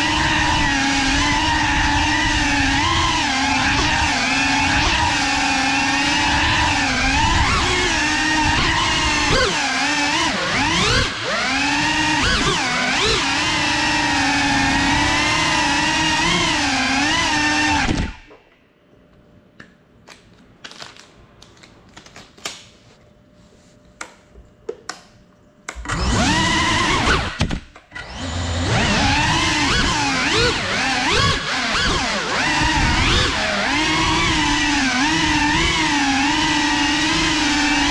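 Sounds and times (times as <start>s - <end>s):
drone motors whining: 0.0s - 18.3s, 25.8s - 37.9s.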